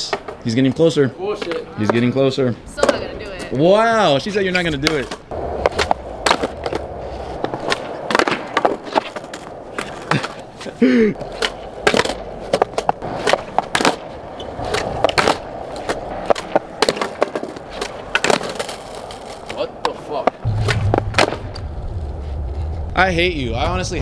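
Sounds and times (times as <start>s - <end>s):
skateboard clacking on ground: 0.0s - 3.6s, 4.3s - 21.6s
skateboard wheels rolling on concrete: 0.0s - 24.0s.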